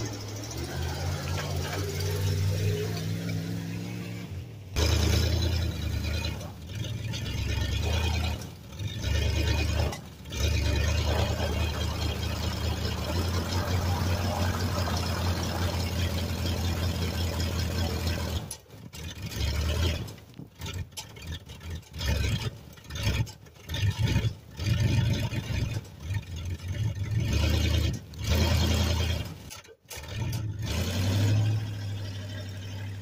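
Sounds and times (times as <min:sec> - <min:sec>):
truck engine running hard: 0:00.0 - 0:33.0
wheels spinning in snow: 0:00.0 - 0:33.0.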